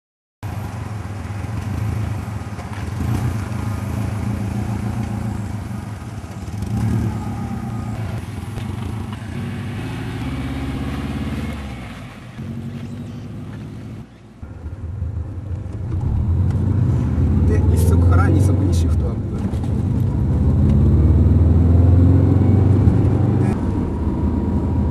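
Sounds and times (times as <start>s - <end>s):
car engine revving: 0.5s - 24.9s.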